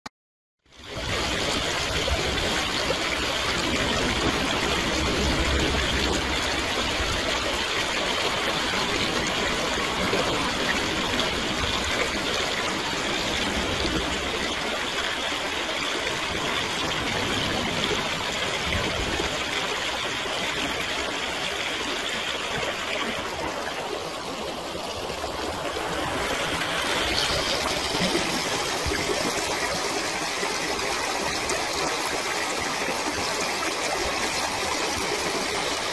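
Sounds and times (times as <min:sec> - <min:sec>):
stream water flowing: 0:00.6 - 0:35.9.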